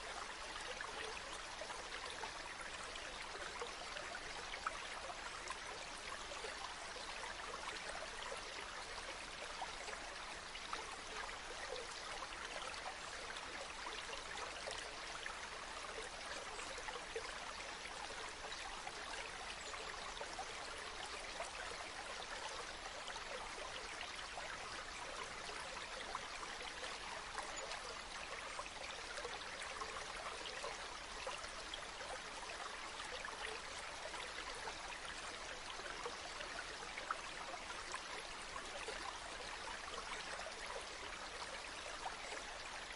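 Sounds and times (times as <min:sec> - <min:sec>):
stream babbling over stones: 0:00.0 - 0:42.9.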